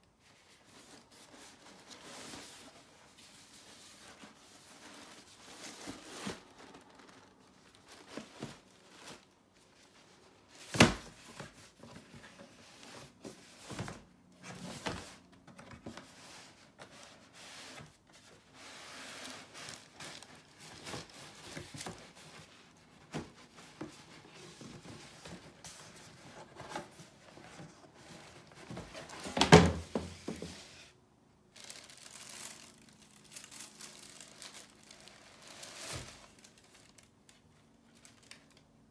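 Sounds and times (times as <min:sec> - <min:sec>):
tissue paper rustling: 0:00.2 - 0:15.2, 0:15.9 - 0:29.4, 0:31.5 - 0:38.5.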